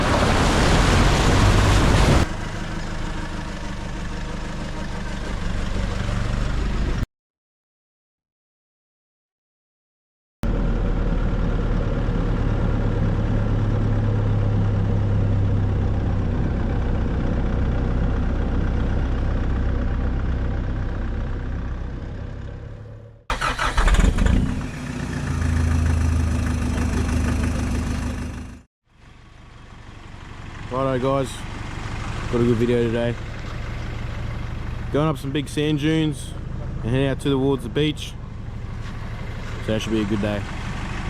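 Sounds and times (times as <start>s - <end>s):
engine droning: 0.0s - 7.0s, 10.4s - 41.0s
rough engine and driving noise: 0.0s - 7.1s, 10.4s - 41.0s.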